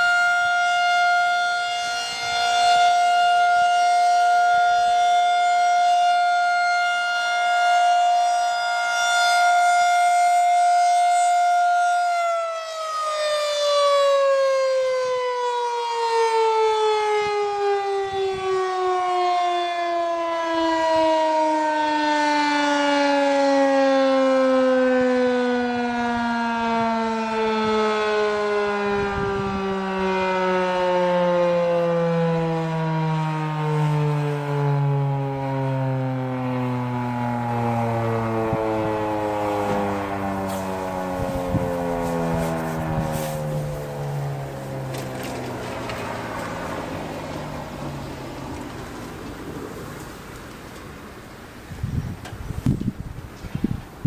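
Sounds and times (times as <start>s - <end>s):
siren winding down: 0.0s - 52.9s
outdoor warning siren: 0.0s - 54.0s.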